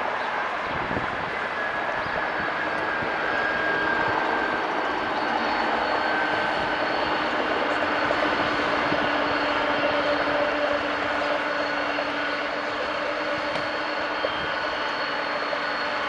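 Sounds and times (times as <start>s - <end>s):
jet engine high whine: 0.0s - 16.0s
jet engines roaring: 0.0s - 16.0s.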